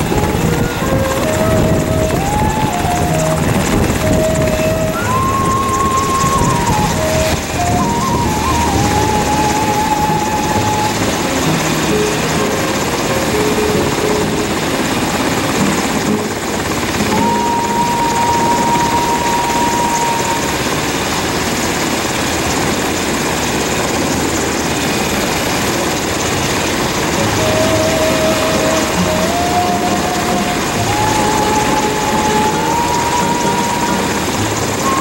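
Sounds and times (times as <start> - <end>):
helicopter rotor and turbine: 0.0 - 35.0
thin steady whine: 0.0 - 35.0.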